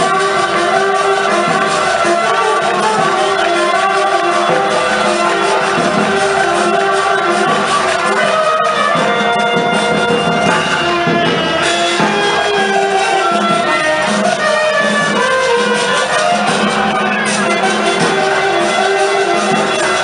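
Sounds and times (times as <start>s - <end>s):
drum beat: 0.0s - 20.0s
shawms playing melody: 0.0s - 20.0s.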